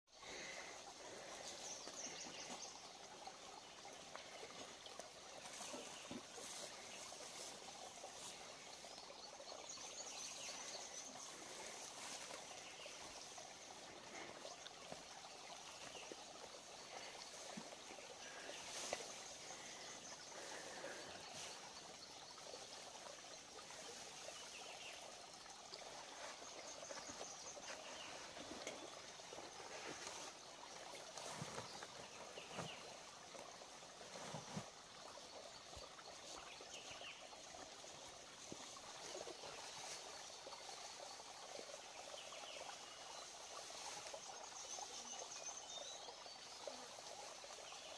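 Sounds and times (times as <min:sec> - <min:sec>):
rustling of tall grass: 0:00.3 - 0:09.2, 0:09.8 - 0:37.0, 0:37.7 - 0:41.8, 0:42.7 - 0:45.0.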